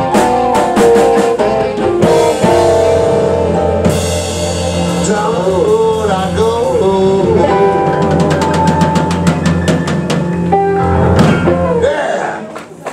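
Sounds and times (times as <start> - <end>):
live band music: 0.0 - 12.9.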